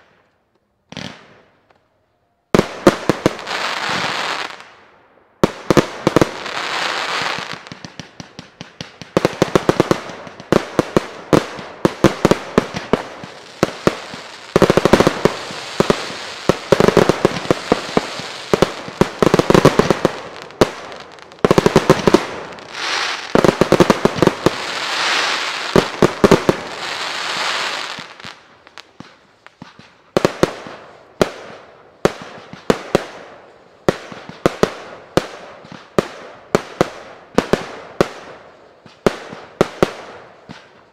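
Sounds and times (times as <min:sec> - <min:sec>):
fireworks bangs and crackling: 0:00.9 - 0:01.8, 0:02.5 - 0:40.9.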